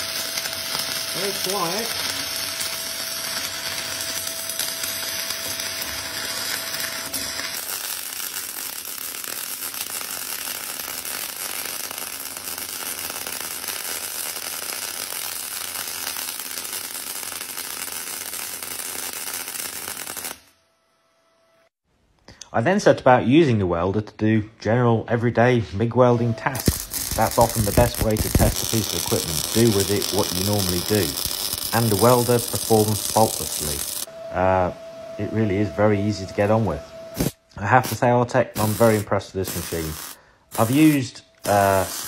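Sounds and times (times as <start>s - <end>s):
welding arc crackling: 0.0s - 20.6s, 26.4s - 34.1s, 36.1s - 42.0s.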